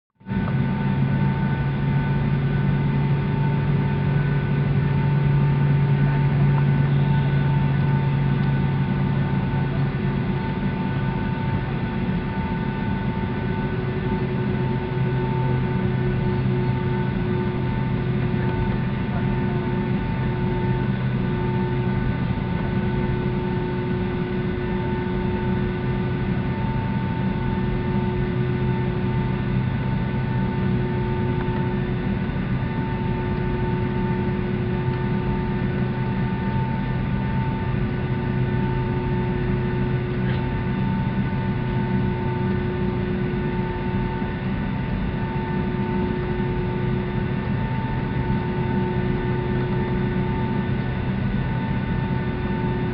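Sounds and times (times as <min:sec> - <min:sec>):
aircraft cabin drone: 0:00.2 - 0:52.9.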